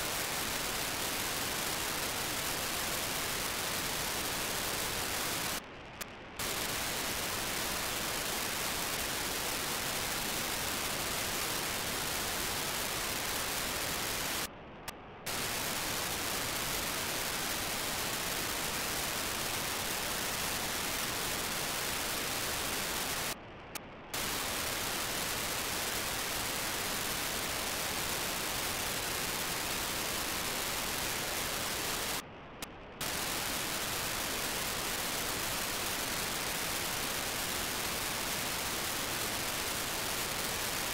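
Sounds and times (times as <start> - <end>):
muffled telemetry data burst: 0.0 - 5.6, 6.4 - 14.5, 15.3 - 23.4, 24.2 - 32.2, 33.0 - 40.9
radio receiver hiss: 0.0 - 14.5, 15.3 - 23.4, 24.1 - 40.9.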